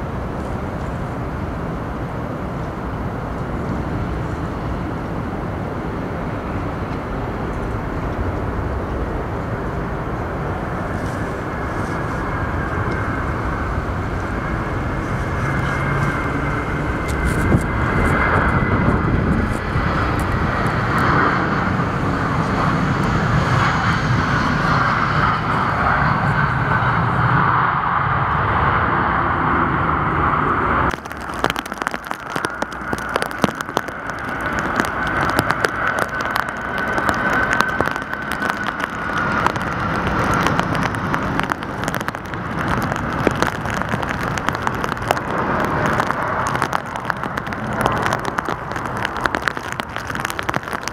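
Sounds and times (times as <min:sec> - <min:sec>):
high whine gliding down: 0:00.0 - 0:50.9
jet airliner engine noise: 0:00.0 - 0:50.9.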